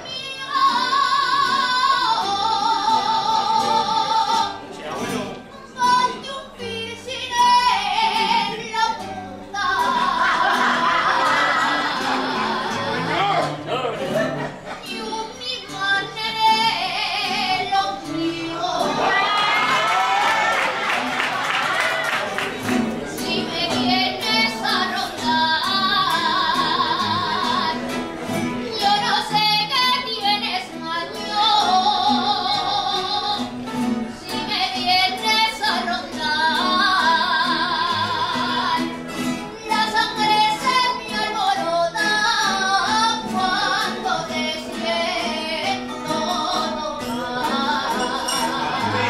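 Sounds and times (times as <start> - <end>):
woman singing with vibrato: 0.0 - 4.6, 5.7 - 13.5, 14.8 - 20.9, 23.0 - 49.0
strummed string ensemble: 1.0 - 49.0.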